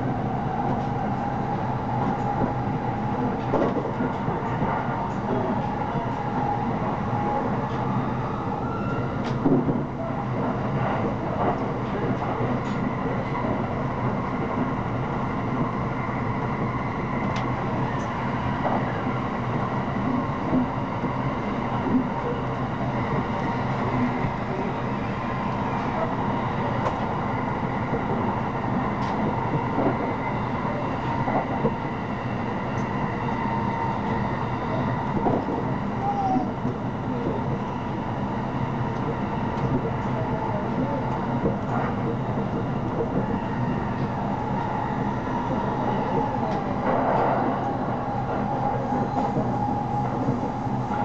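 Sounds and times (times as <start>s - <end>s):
wheels rumbling on rails: 0.0s - 51.0s.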